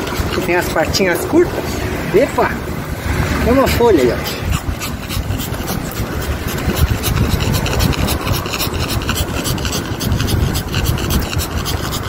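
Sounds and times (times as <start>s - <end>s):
dog panting rapidly: 0.0s - 2.5s, 3.2s - 12.0s.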